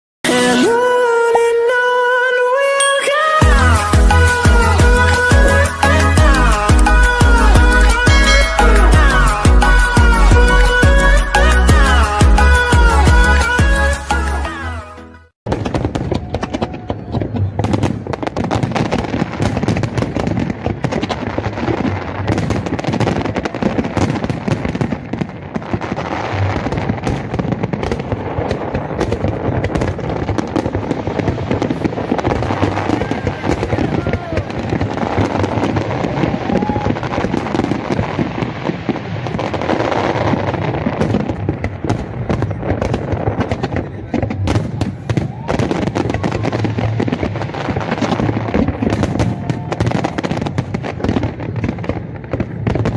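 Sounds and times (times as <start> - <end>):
heavy firework bangs: 3.4 - 13.8, 15.5 - 52.9
fireworks crackling and popping: 3.4 - 14.4, 15.5 - 52.9.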